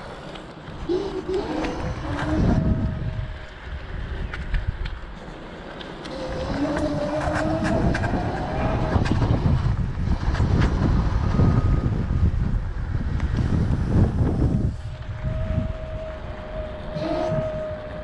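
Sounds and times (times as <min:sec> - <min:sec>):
electric scooter motor whine: 0:00.0 - 0:18.0
road noise: 0:00.0 - 0:18.0
wind rumble on microphone: 0:00.0 - 0:18.0.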